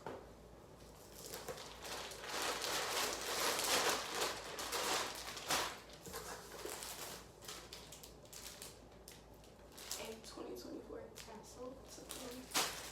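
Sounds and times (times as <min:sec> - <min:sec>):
plastic packaging crinkling: 0:00.9 - 0:10.5, 0:11.1 - 0:12.9.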